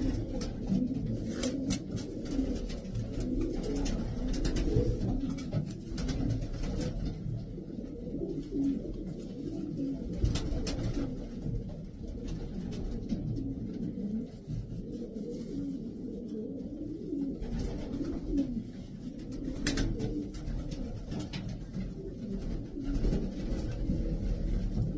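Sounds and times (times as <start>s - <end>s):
pigeons cooing: 0.0s - 24.9s.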